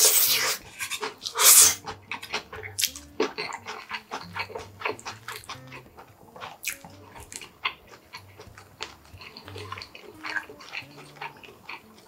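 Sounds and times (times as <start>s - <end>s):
wet chewing smacks: 0.0s - 12.0s.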